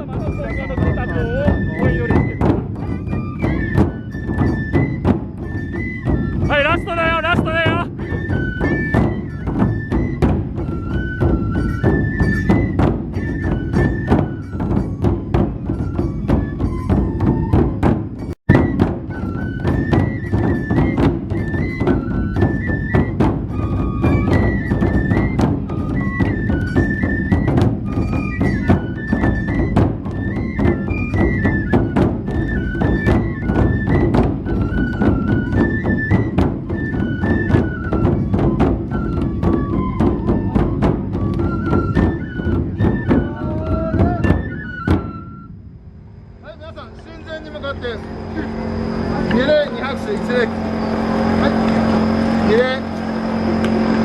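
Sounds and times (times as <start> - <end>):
bamboo flute melody: 0.0 - 54.0
big drums beaten: 0.0 - 54.0.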